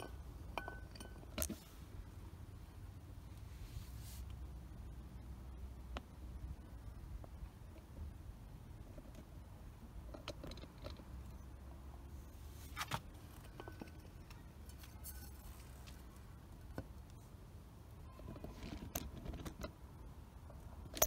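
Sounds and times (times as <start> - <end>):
faint low rumble: 0.0 - 21.0.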